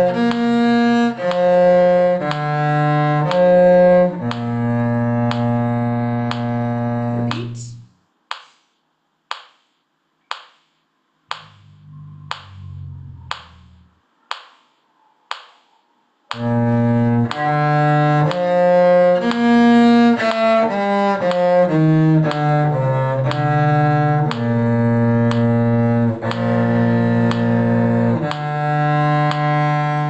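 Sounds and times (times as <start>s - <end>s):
cello bowing low notes: 0.0s - 7.9s, 11.3s - 14.0s, 16.3s - 30.0s
metronome clicking: 0.0s - 8.6s, 9.3s - 10.7s, 11.3s - 30.0s.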